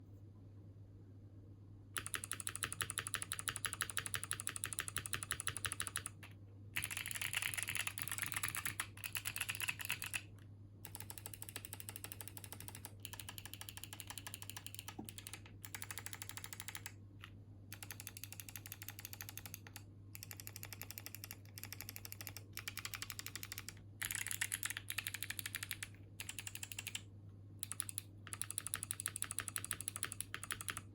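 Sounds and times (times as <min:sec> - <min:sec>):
fast typing on mechanical keyboard: 0:02.0 - 0:17.0, 0:17.7 - 0:30.9.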